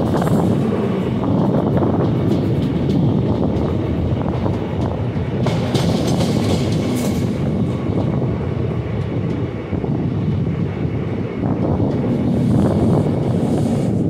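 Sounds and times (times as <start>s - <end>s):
rail joint clicks: 0.0s - 14.0s
train wheels rumbling on rails: 0.0s - 14.0s.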